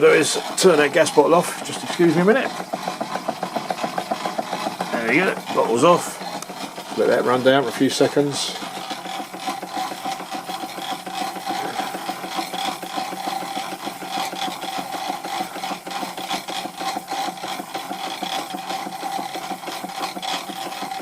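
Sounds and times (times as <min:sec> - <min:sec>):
steam engine running: 0:00.0 - 0:21.0.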